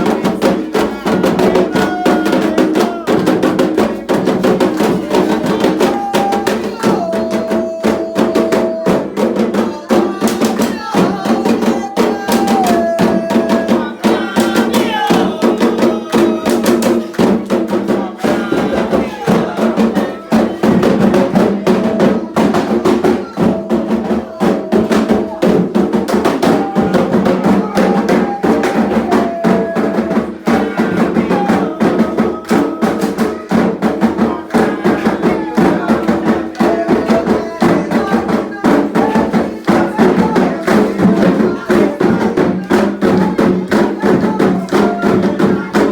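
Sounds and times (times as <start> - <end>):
hand drums playing fast rhythm: 0.0 - 45.9
voices singing: 0.0 - 45.9.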